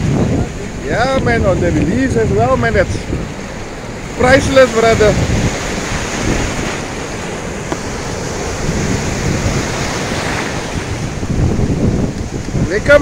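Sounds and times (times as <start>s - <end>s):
surf washing through shallows: 0.0s - 13.0s
waves breaking: 0.0s - 13.0s
wind buffeting microphone: 0.0s - 13.0s.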